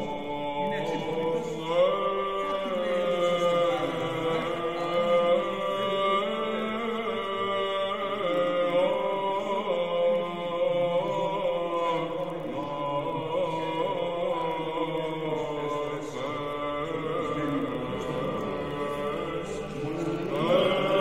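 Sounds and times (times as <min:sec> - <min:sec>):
slow vocal chant: 0:00.0 - 0:21.0.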